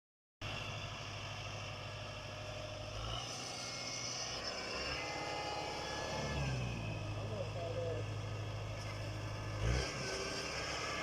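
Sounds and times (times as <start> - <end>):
tractor diesel engine running: 0.4 - 11.0.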